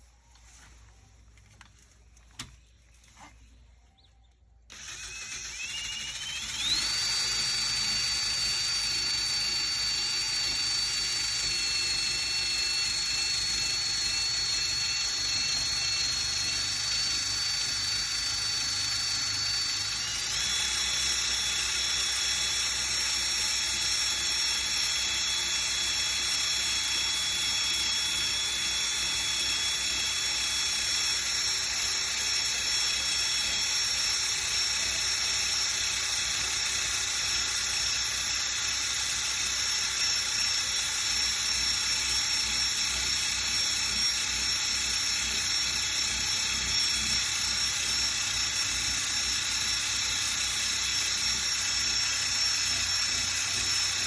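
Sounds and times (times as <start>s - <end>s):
power sander whining: 4.7s - 54.0s.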